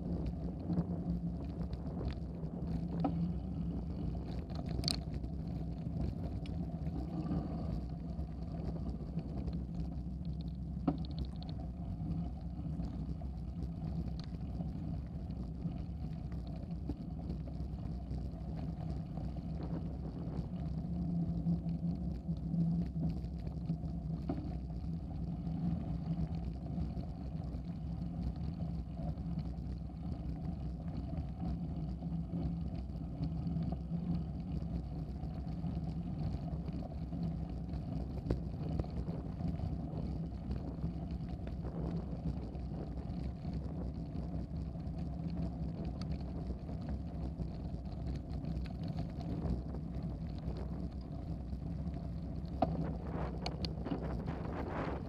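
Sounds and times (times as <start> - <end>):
bicycle tyres rumbling on gravel: 0.0 - 55.0
constant low hum: 0.0 - 55.0.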